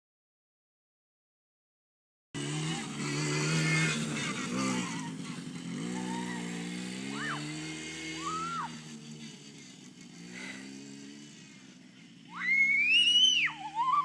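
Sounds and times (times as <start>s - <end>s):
ride-on toy vehicle motor: 2.4s - 14.0s.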